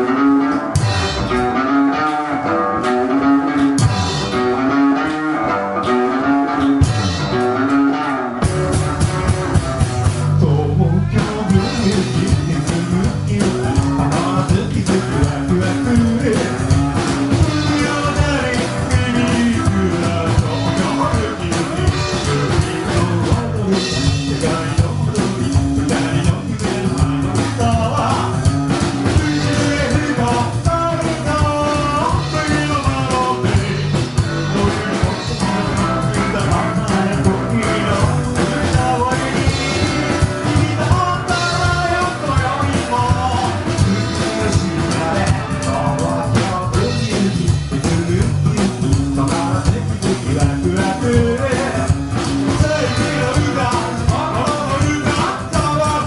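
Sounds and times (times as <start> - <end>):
rockabilly band playing live: 0.0 - 56.0
person singing: 10.2 - 56.0.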